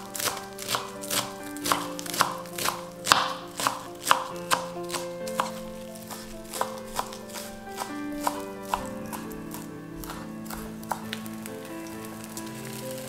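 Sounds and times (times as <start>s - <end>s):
knife chopping on cutting board: 0.0s - 11.2s
background music: 0.0s - 13.0s.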